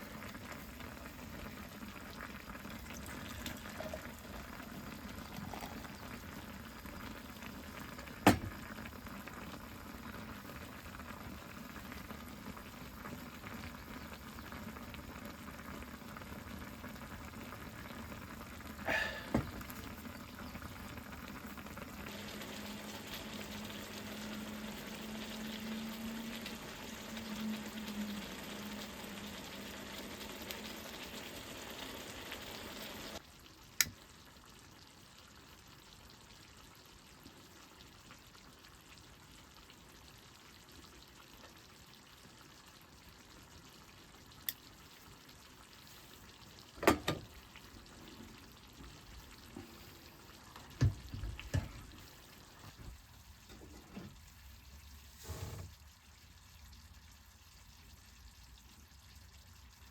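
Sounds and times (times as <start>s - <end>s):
food sizzling: 0.0s - 59.9s.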